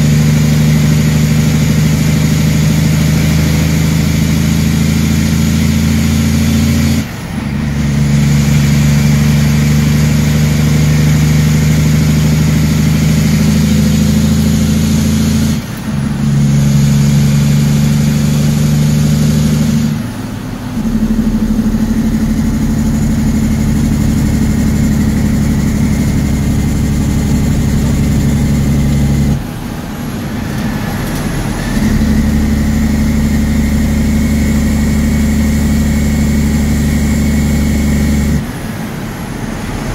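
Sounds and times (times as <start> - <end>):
truck diesel engine from inside cab: 0.0 - 39.9.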